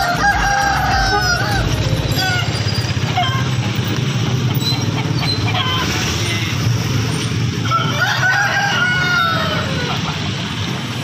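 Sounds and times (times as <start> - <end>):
road traffic rumble: 0.0 - 11.0
roosters calling: 0.0 - 11.0.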